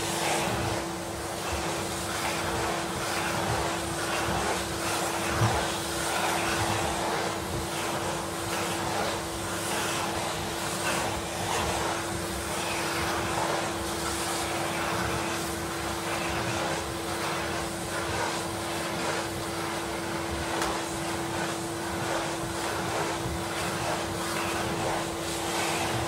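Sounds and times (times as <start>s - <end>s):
suction hiss over carpet: 0.0s - 26.0s
vacuum cleaner motor whine: 0.0s - 26.0s.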